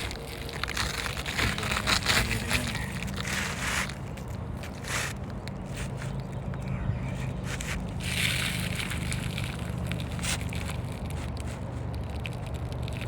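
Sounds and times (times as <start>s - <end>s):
roofing shingle scraping and crackling: 0.0s - 13.0s
steady low hum: 0.0s - 13.0s.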